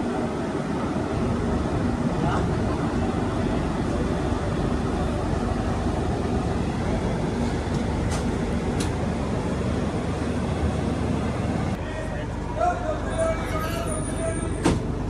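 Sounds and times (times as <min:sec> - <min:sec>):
moving train running noise: 0:00.0 - 0:15.0.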